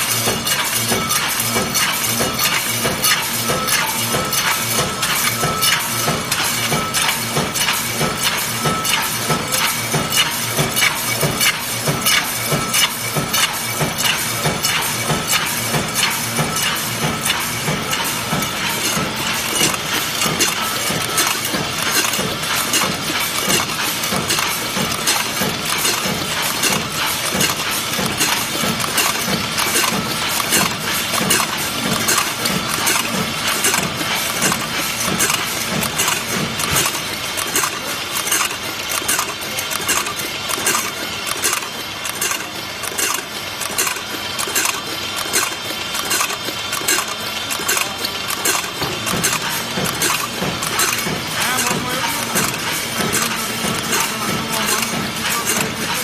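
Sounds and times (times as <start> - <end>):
metal shells clattering on conveyor: 0.0 - 56.0
steady machine hum: 0.0 - 56.0.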